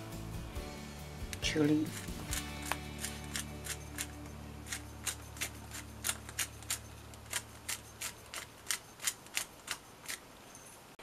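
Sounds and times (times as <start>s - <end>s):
salt grinder crunching clicks: 1.3s - 10.3s.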